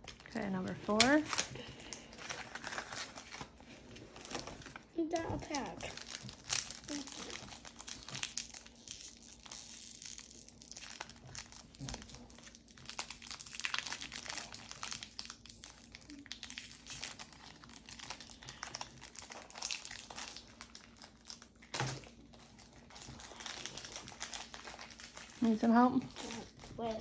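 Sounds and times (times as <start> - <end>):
foil wrapper crinkling: 0.0 - 27.0.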